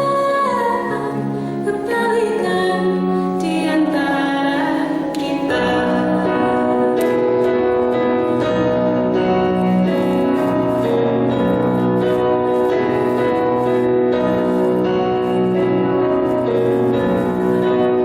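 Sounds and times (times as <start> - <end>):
piano keyboard slow song: 0.0 - 18.0.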